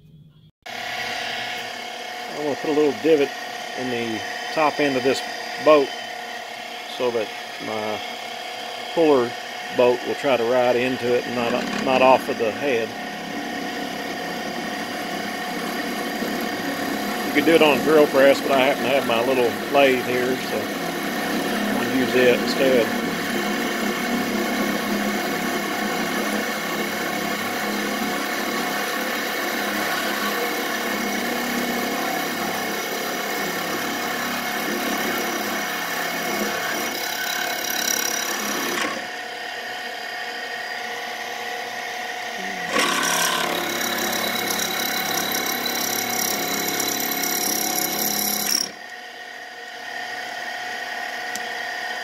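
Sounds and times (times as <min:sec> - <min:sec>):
lathe motor whining: 0:00.7 - 0:52.0
drill bit scraping metal: 0:01.2 - 0:06.2, 0:06.9 - 0:39.0, 0:42.4 - 0:48.9.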